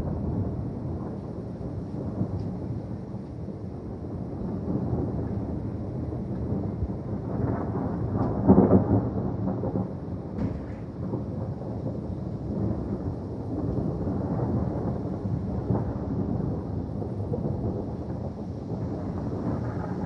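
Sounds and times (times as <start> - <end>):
distant thunder rumbling: 0.0 - 20.0.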